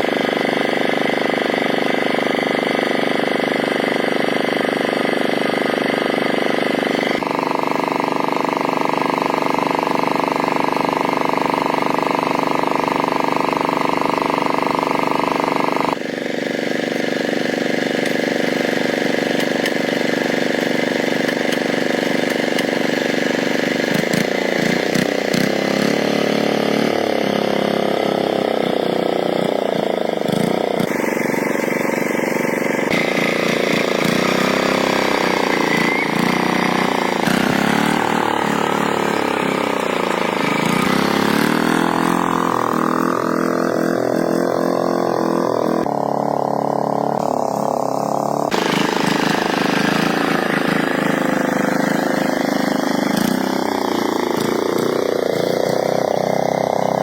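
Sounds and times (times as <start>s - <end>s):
old tractor engine running: 0.0s - 57.0s.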